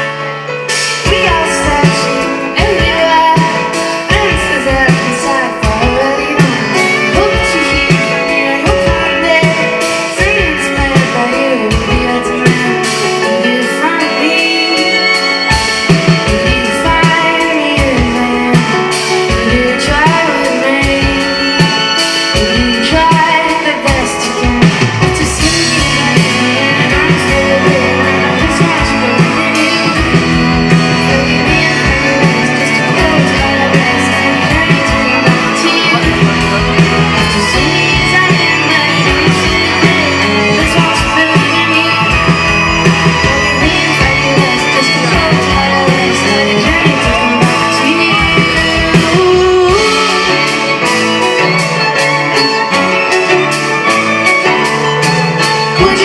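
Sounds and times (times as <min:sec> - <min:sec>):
live pop band playing: 0:00.0 - 0:56.0
person singing: 0:00.0 - 0:56.0
steady drum beat: 0:00.7 - 0:56.0.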